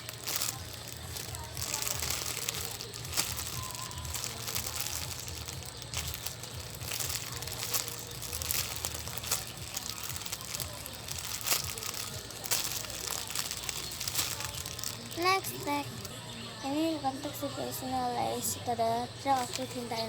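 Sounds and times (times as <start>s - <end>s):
plastic wrapping crinkling: 0.0s - 16.2s, 19.1s - 20.0s.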